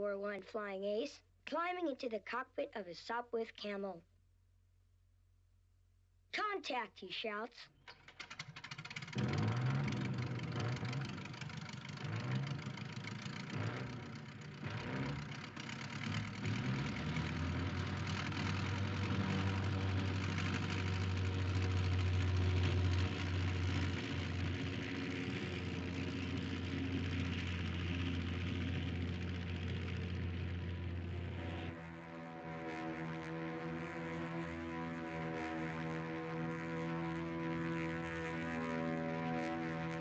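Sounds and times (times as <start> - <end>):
biplane engine starting and droning: 7.8 - 40.0.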